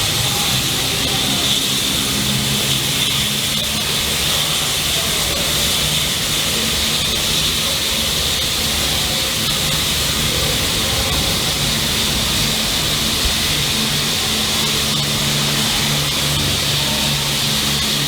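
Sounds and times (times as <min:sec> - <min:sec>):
locomotive steady hiss: 0:00.0 - 0:18.0
low wavering engine hum: 0:00.0 - 0:18.0.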